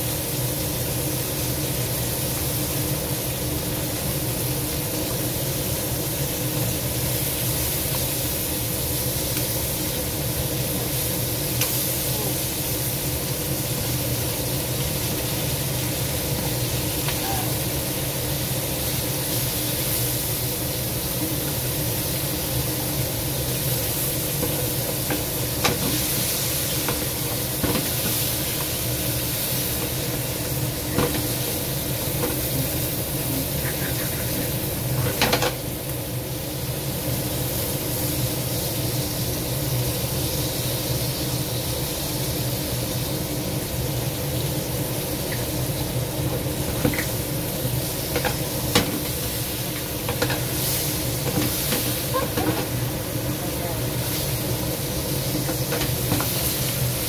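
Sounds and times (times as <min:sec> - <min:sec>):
crab sizzling in a wok: 0:00.0 - 0:57.0.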